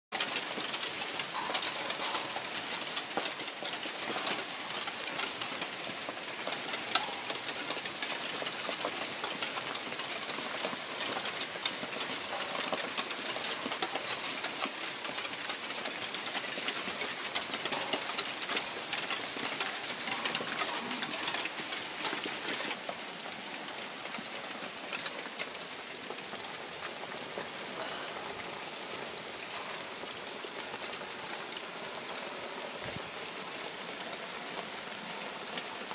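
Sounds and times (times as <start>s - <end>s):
hailstones falling on ground: 0.1s - 35.9s.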